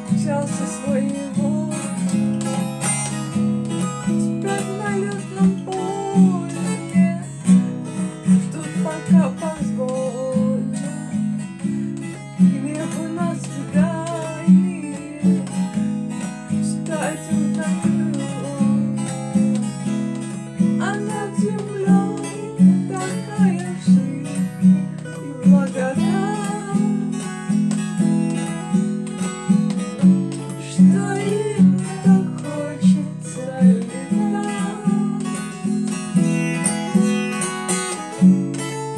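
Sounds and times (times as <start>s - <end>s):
person singing: 0.0s - 2.8s, 3.7s - 11.2s, 12.4s - 19.6s, 20.6s - 27.8s, 29.9s - 38.9s
acoustic guitar strumming: 0.0s - 38.9s.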